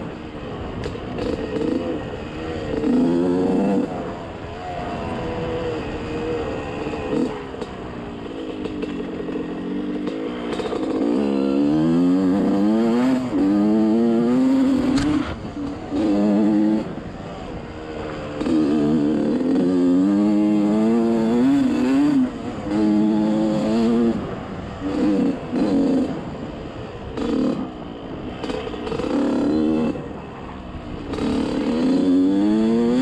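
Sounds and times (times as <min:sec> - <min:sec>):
small engine revving: 0:00.0 - 0:33.0.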